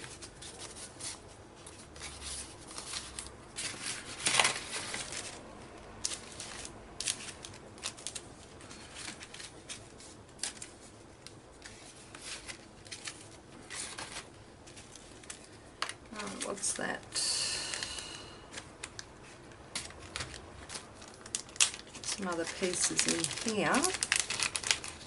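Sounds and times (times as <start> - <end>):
paper rustling: 0.0 - 16.8, 17.8 - 25.0.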